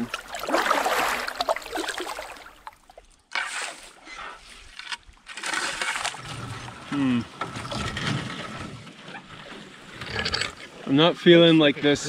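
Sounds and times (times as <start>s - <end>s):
paddle splashing water: 0.0s - 10.0s.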